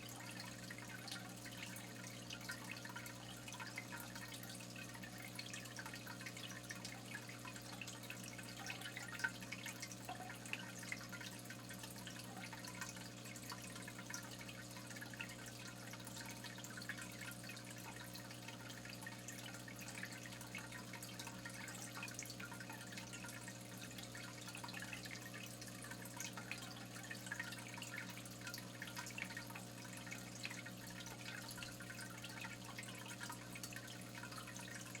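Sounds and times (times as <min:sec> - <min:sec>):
water trickling and dripping: 0:00.0 - 0:35.0.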